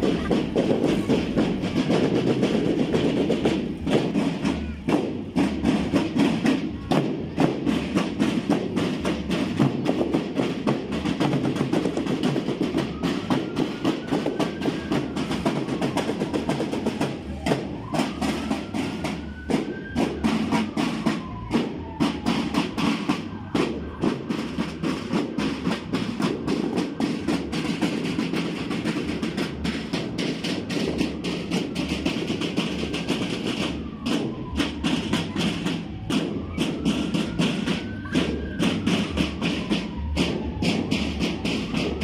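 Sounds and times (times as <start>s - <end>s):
marching snare drums: 0.0s - 42.0s.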